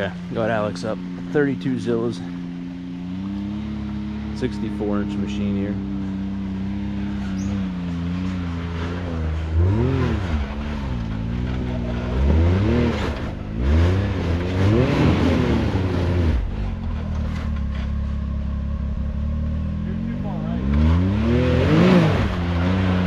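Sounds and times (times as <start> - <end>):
engine revving hard: 0.0 - 17.5, 19.8 - 23.0.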